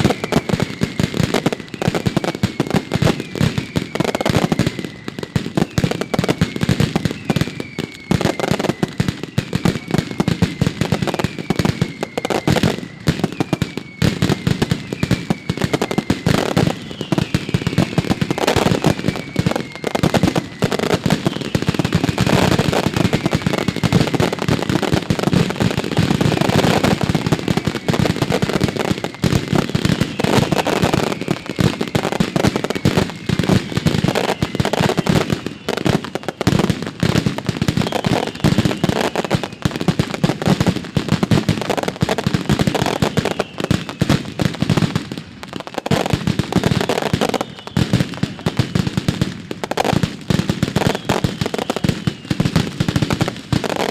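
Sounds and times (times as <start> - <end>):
short falling whistles: 0.0 - 36.4, 37.7 - 39.8, 42.6 - 44.2, 46.0 - 48.8, 50.8 - 52.7.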